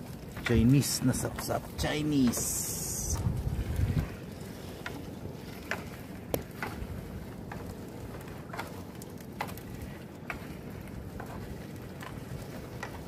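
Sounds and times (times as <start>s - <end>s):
water dripping and splashing: 0.0s - 13.0s
wind rumble on microphone: 0.0s - 13.0s.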